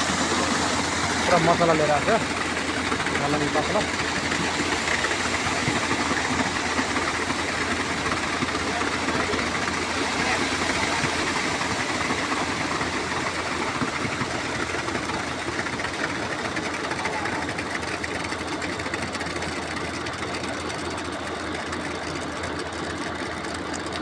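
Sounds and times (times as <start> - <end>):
heavy machinery engine rattling: 0.0 - 24.0.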